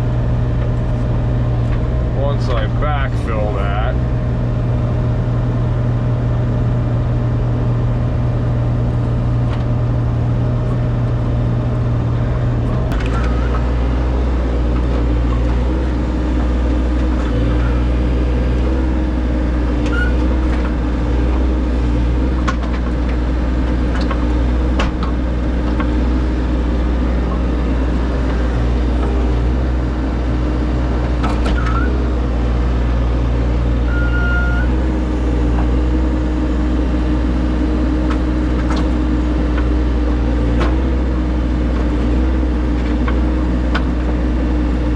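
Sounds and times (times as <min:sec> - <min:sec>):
heavy equipment engine running: 0:00.0 - 0:44.9.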